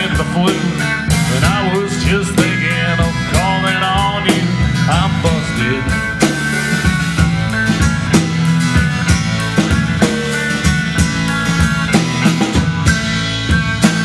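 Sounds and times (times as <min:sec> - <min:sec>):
acoustic guitar: 0:00.0 - 0:14.0
drum kit beat: 0:00.0 - 0:14.0
electric bass: 0:00.0 - 0:14.0
electric guitar: 0:00.0 - 0:14.0.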